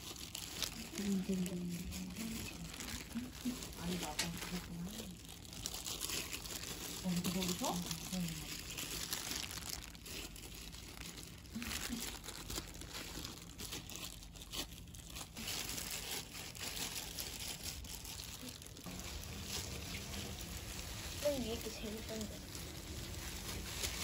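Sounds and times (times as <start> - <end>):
plastic gloves crinkling: 0.0 - 24.0.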